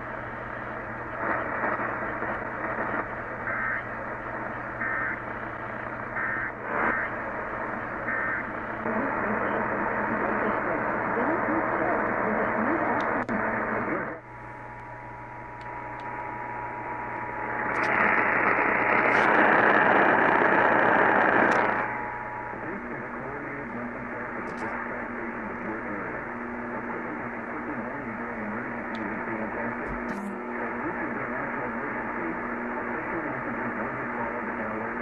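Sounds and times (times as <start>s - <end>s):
faint steady tones: 0.0s - 35.0s
low hum: 0.0s - 35.0s
radio static hiss: 0.0s - 35.0s.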